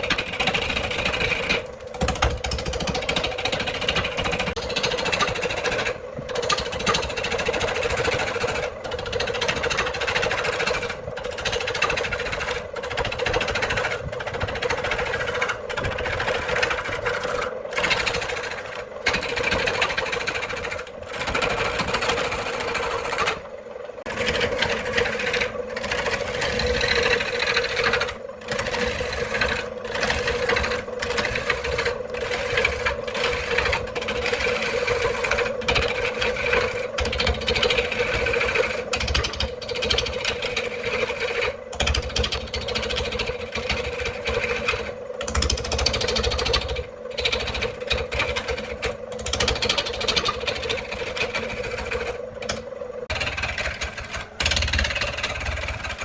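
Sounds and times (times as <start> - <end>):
grinding and cutting wood: 0.0 - 56.0
woodworking machine motor hum: 0.0 - 56.0.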